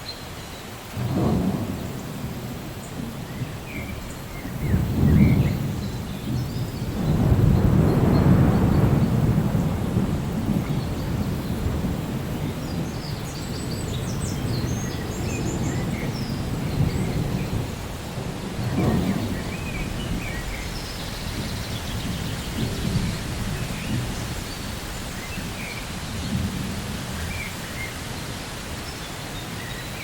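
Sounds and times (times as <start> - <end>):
steady rain: 0.0 - 30.0
rolling thunder: 1.0 - 28.0.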